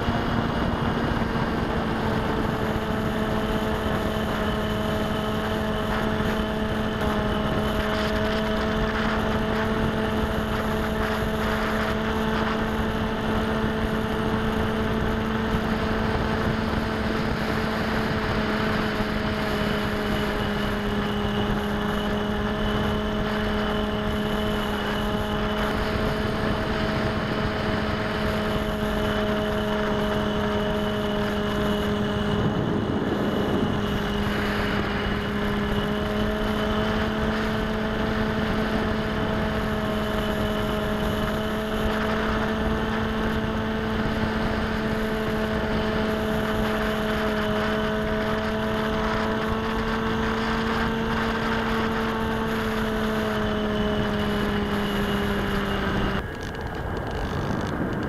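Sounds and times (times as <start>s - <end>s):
electric motor and propeller hum: 0.0s - 58.0s.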